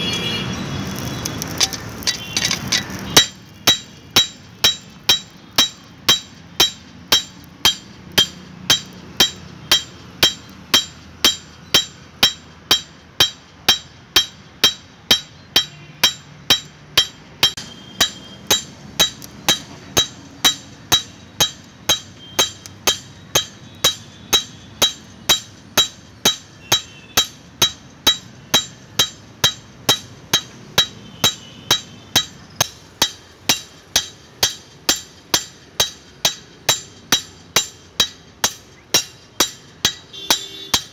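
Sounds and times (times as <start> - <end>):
hammer striking metal on anvil: 1.5 - 40.9.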